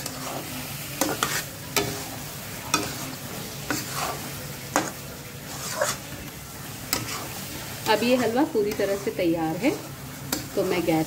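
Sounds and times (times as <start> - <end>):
metal spatula scraping a pan: 0.0 - 6.2, 6.9 - 11.0
faint sizzle: 0.0 - 11.0.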